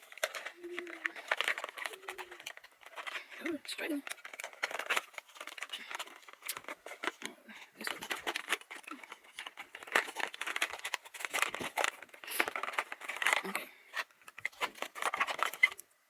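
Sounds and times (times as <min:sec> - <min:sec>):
packaging crinkling: 0:00.0 - 0:15.9.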